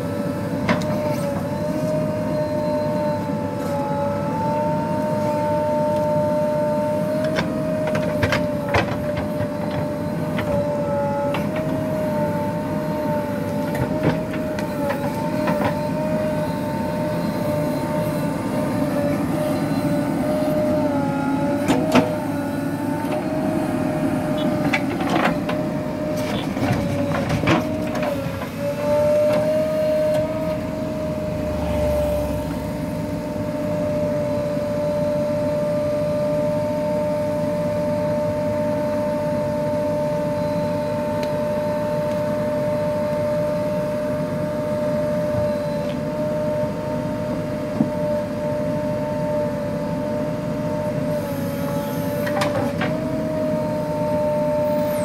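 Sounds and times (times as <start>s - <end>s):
diesel engine and hydraulics whine: 0.0s - 55.0s.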